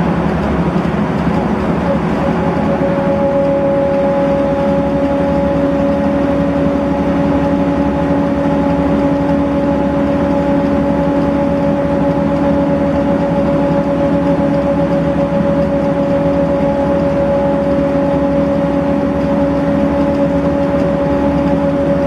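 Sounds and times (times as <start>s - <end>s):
bus engine drone: 0.0s - 22.0s
road noise: 0.0s - 22.0s.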